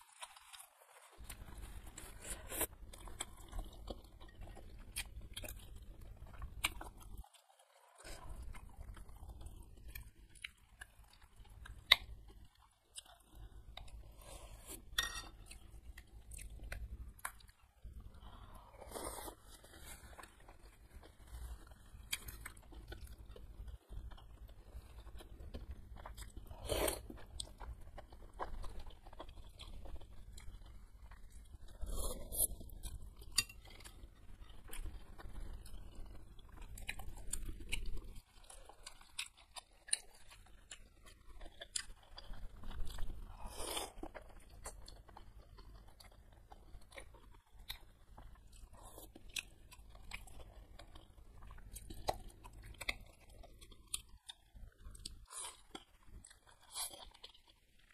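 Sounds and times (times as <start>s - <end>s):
chewing and wet mouth sounds: 0.0s - 57.9s.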